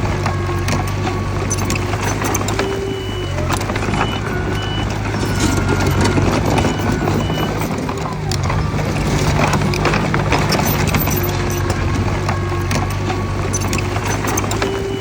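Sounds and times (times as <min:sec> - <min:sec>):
bulldozer diesel engine running: 0:00.0 - 0:15.0
reversing alarm beeps: 0:00.5 - 0:15.0.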